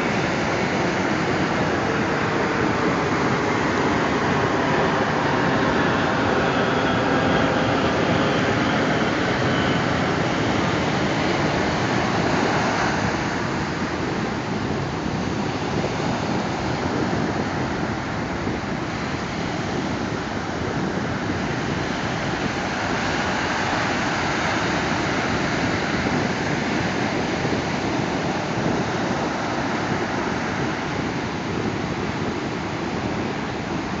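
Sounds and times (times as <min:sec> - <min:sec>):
ocean surf washing on beach: 0:00.0 - 0:34.0.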